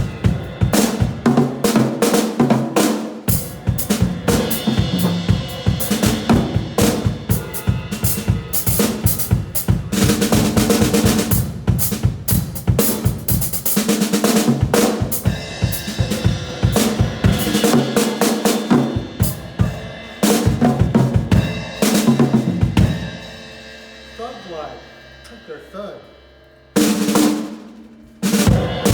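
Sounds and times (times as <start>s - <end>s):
drum kit played with mallets: 0.0s - 25.8s, 26.8s - 28.9s.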